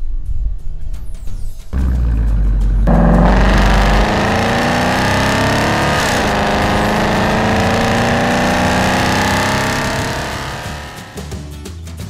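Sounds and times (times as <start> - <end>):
car engine accelerating: 1.8 - 11.5.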